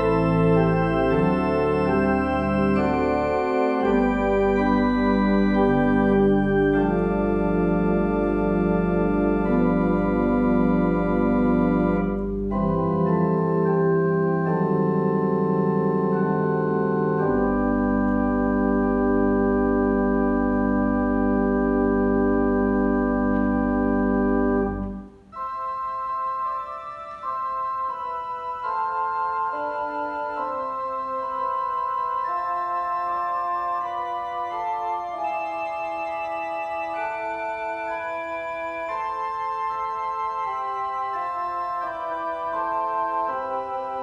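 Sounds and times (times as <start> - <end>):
organ playing sustained chords: 0.0 - 44.0.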